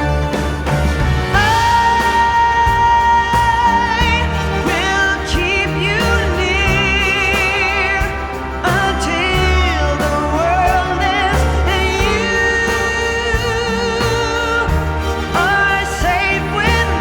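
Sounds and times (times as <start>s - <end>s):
bass and instrumental backing: 0.0s - 17.0s.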